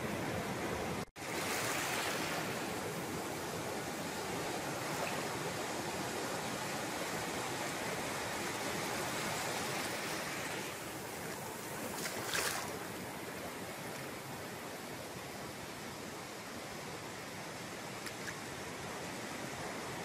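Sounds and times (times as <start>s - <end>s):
waves breaking on sandy beach: 0.0s - 20.0s.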